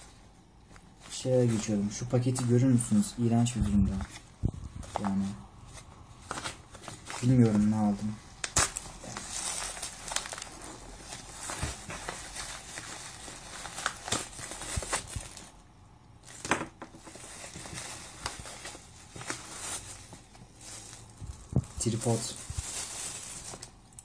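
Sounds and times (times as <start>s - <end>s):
plastic bag crinkling: 3.6s - 15.6s, 16.2s - 24.0s.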